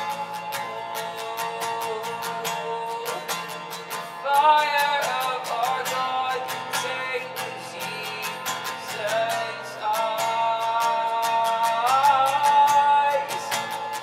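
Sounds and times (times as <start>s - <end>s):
person singing wordless line: 0.0s - 14.0s
strummed guitar: 0.0s - 14.0s.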